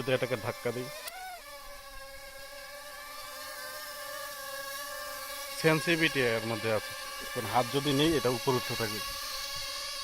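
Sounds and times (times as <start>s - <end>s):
mini drone buzzing whine: 0.0s - 10.0s.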